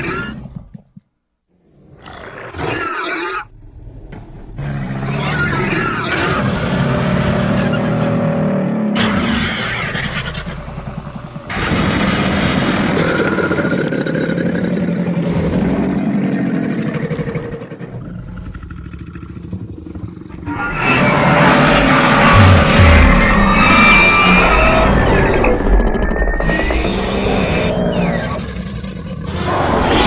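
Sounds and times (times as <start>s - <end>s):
monster roar: 2.0s - 30.0s.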